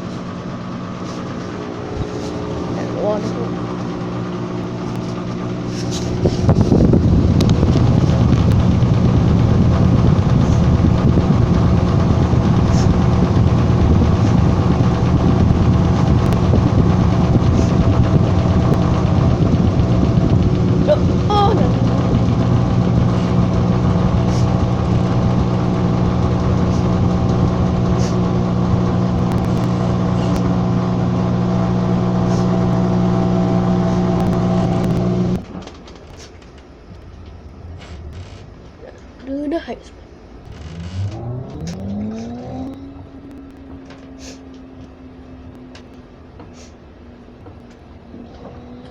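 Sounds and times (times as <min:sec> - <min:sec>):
washing machine motor hum: 0:00.0 - 0:48.9.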